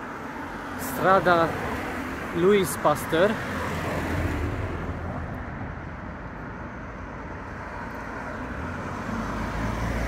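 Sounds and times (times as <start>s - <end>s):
road vehicles passing: 0.0s - 10.0s.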